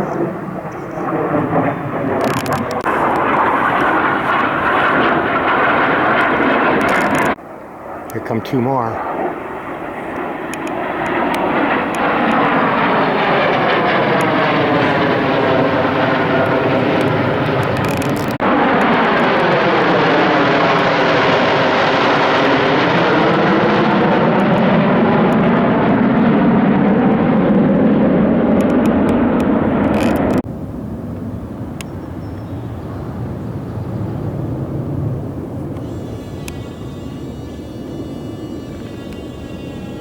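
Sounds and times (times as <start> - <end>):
jet aircraft flying overhead: 0.0 - 40.0.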